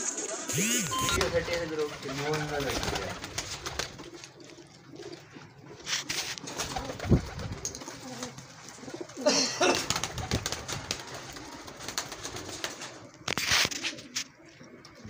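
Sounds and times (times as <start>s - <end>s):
wings flapping: 0.0s - 14.4s
pigeons cooing: 0.0s - 15.0s
pigeons scuffling: 1.2s - 15.0s.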